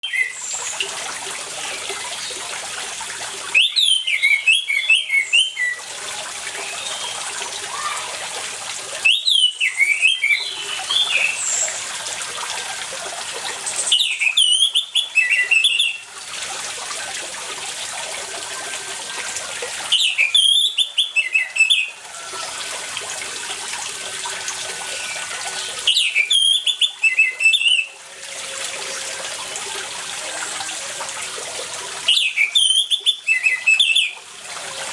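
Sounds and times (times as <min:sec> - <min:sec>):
running water: 0:00.0 - 0:34.9.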